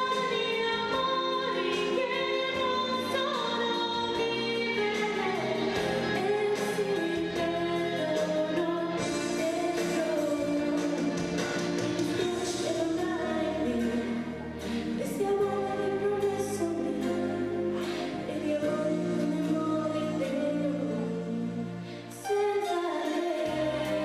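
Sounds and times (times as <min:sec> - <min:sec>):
musical accompaniment: 0:00.0 - 0:24.0
woman singing into microphone: 0:00.0 - 0:24.0.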